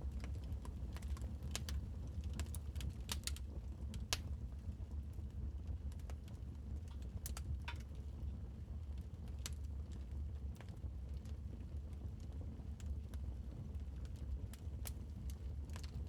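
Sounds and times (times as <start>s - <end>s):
low rumble of flames: 0.0s - 16.0s.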